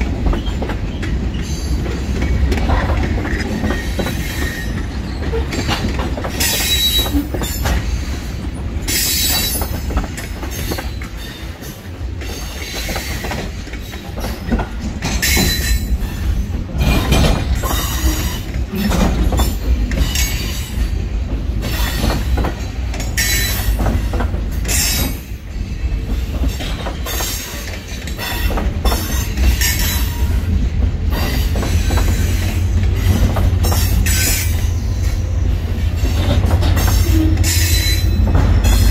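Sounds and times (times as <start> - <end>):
wheels squealing on rail: 0.2 - 38.9.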